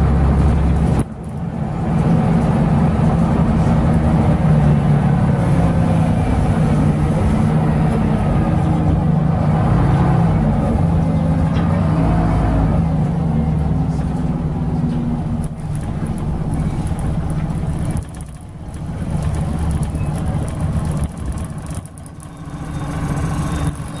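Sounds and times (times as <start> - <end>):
bus diesel engine pulling: 0.0 - 24.0.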